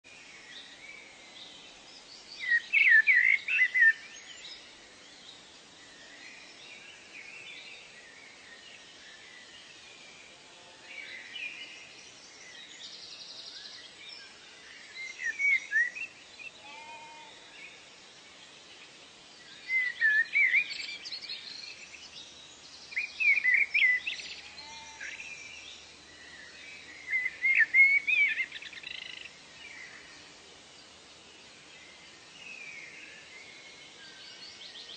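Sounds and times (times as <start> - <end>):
faint background hiss: 0.0 - 34.9
songbirds chirping: 0.0 - 34.9.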